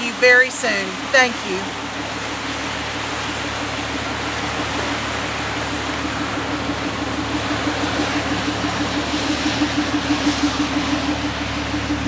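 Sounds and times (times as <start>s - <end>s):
pulsing low hum: 0.0s - 12.0s.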